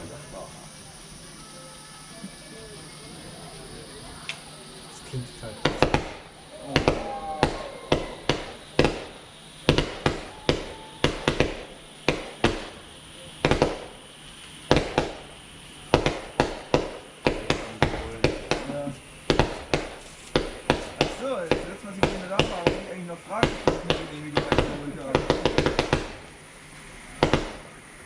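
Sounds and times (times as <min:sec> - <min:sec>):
fireworks banging: 0:00.0 - 0:28.0.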